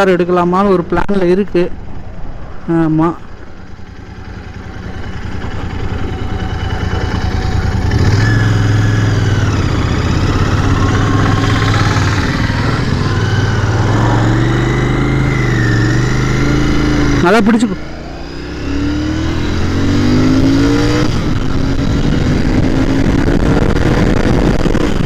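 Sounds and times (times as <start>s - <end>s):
motorcycle engine accelerating: 3.3s - 25.0s.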